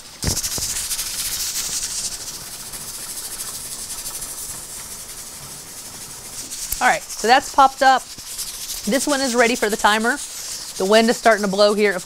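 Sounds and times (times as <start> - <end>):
steam hissing and sputtering: 0.0 - 12.0.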